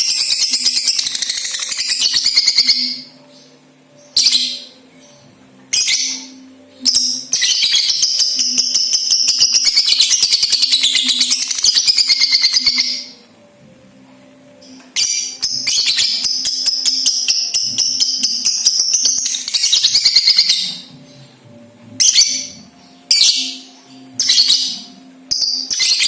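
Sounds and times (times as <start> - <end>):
bird high-pitched trill: 0.0 - 13.3, 14.6 - 26.0.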